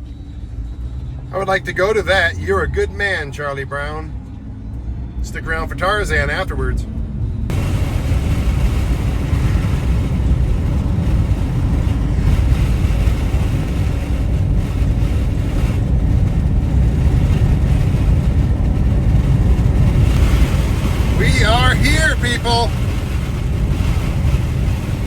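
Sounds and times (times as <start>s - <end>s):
van engine and road rumble: 0.0s - 25.0s.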